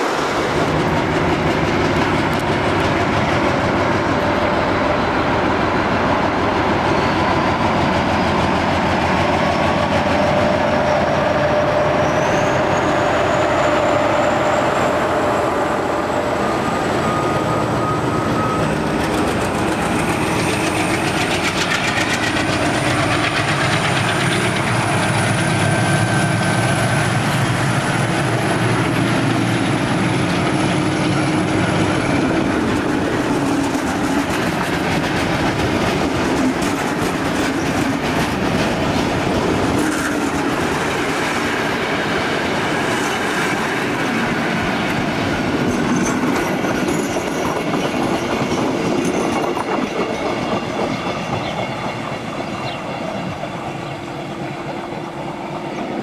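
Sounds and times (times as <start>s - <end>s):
train wheels clicking over rail joints: 0.0s - 12.6s, 17.4s - 55.9s
diesel locomotive engine: 0.0s - 56.0s.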